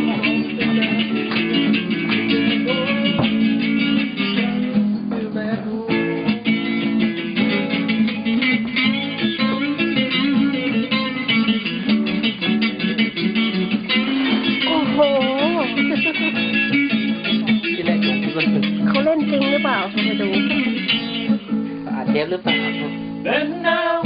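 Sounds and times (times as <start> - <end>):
plucked guitar music: 0.0 - 24.0.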